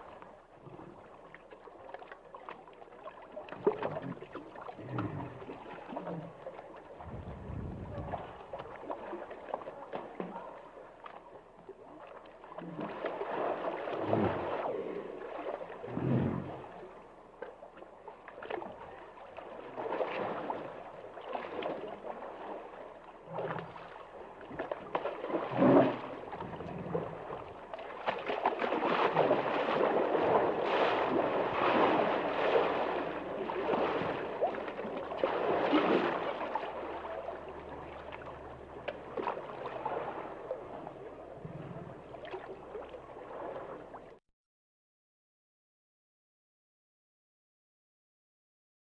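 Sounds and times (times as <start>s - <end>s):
water sloshing and gurgling: 0.0s - 44.2s.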